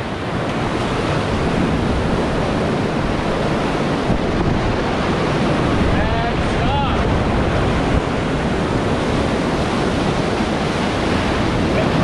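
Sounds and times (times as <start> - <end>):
loud rush of river rapids: 0.0 - 12.0.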